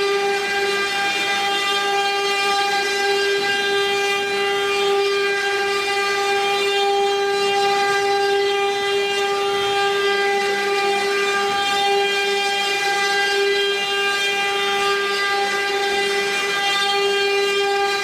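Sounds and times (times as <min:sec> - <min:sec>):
high-pitched motor whine: 0:00.0 - 0:18.0.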